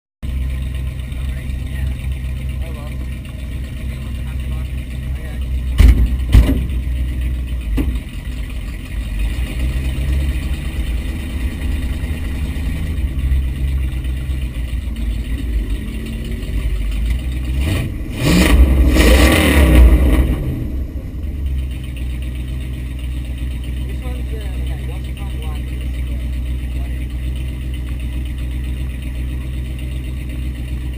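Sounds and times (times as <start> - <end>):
engine idling and revving: 0.2 - 30.9.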